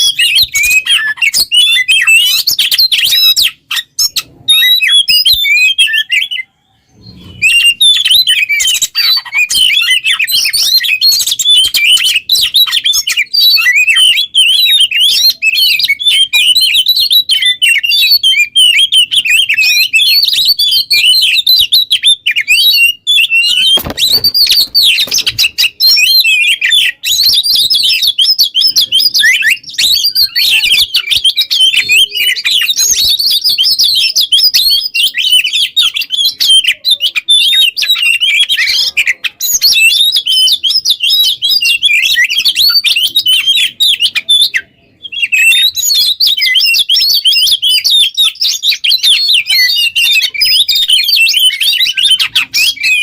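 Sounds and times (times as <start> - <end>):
magpie-robin warbling song: 0.0 - 53.0.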